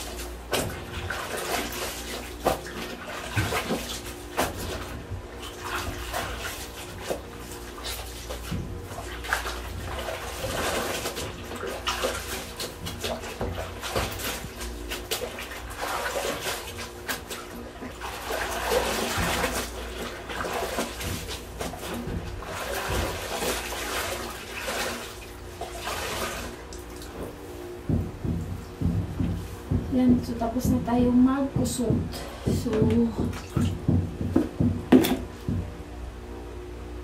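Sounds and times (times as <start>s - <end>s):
fabric rubbing in water: 0.0s - 33.9s
water sloshing and splashing: 0.0s - 35.7s.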